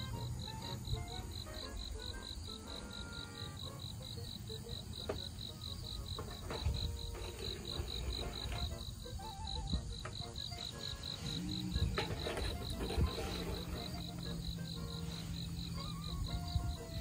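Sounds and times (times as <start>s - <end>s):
faint background music: 0.0s - 17.0s
insect chirping: 0.0s - 17.0s.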